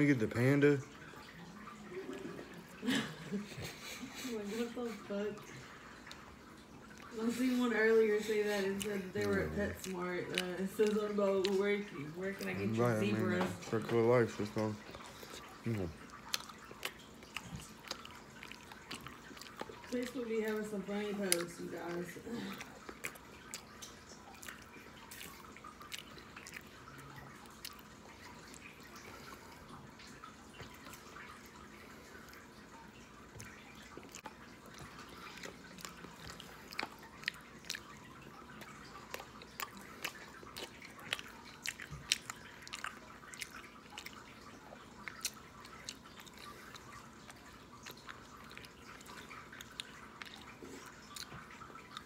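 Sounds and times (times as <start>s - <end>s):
close-up chewing with lip smacks: 0.0s - 52.0s.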